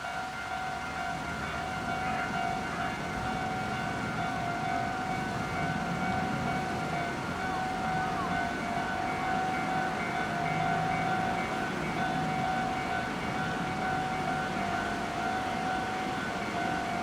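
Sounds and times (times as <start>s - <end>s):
level crossing alarm ringing: 0.0s - 17.0s.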